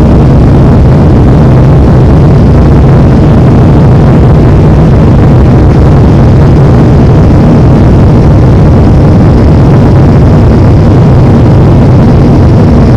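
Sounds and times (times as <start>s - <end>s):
airliner engine rumble: 0.0s - 12.9s.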